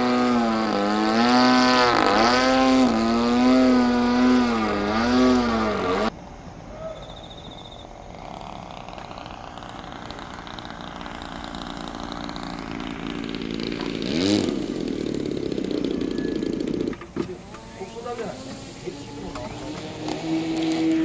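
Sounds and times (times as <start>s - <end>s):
model aircraft engine: 0.0s - 6.1s, 7.6s - 21.0s.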